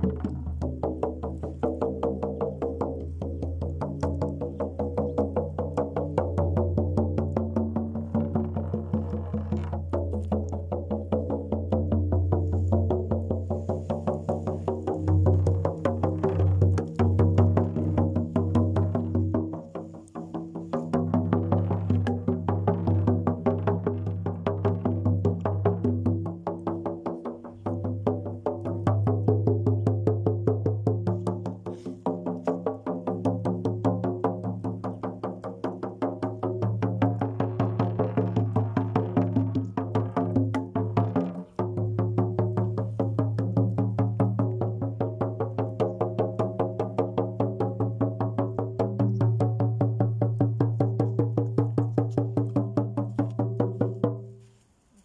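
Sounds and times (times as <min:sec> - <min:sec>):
fast clicking beat: 0:00.0 - 0:54.2.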